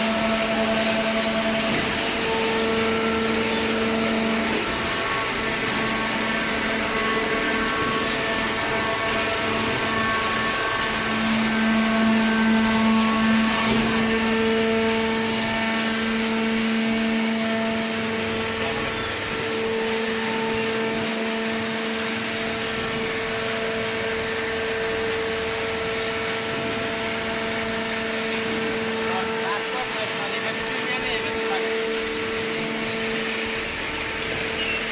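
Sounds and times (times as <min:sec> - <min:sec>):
baler machine hum: 0:00.0 - 0:34.9.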